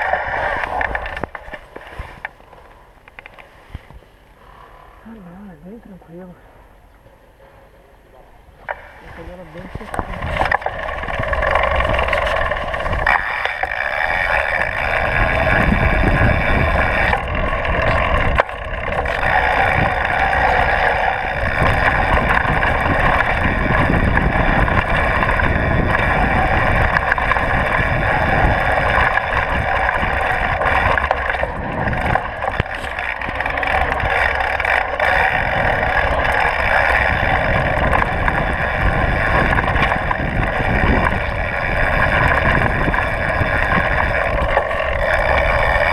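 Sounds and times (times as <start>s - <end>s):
bike tyres rumbling and rattling: 0.0s - 45.9s
steady high hum: 0.0s - 45.9s
wind rush on microphone: 9.0s - 45.9s.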